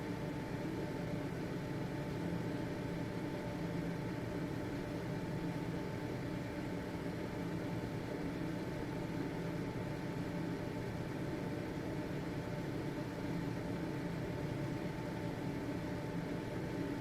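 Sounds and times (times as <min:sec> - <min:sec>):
ventilation fan running: 0:00.0 - 0:17.0.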